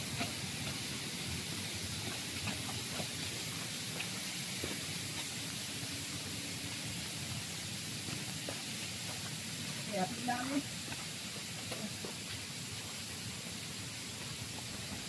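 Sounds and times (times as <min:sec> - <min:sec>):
footsteps on rocky trail: 0:00.0 - 0:06.2, 0:06.8 - 0:13.2, 0:14.0 - 0:15.0
forest background hiss: 0:00.0 - 0:15.0.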